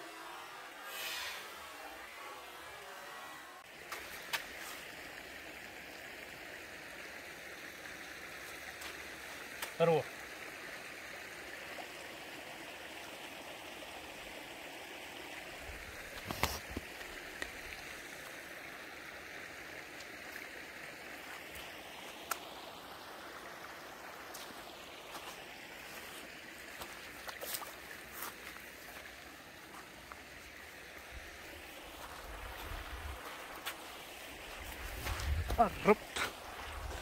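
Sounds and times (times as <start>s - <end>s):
stream water flowing: 2.4s - 37.0s.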